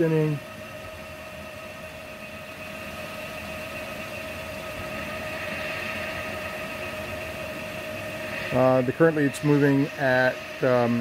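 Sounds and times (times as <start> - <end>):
milling machine whining: 0.0 - 11.0.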